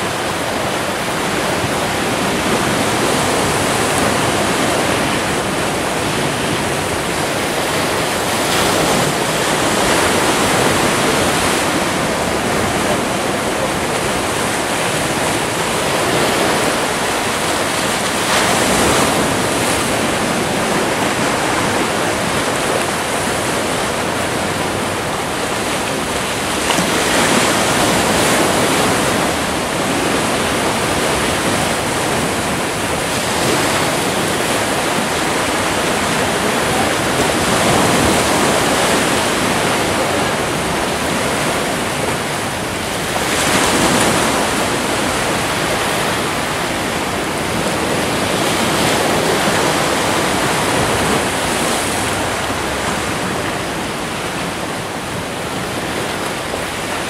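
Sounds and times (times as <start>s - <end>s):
waves washing among rocks: 0.0s - 57.0s.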